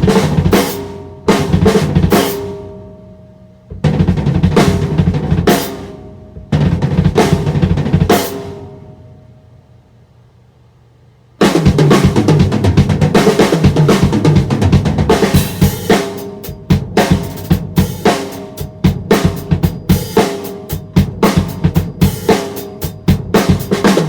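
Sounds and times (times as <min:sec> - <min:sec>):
drum kit playing: 0:00.0 - 0:03.0, 0:03.7 - 0:09.0, 0:11.4 - 0:24.0.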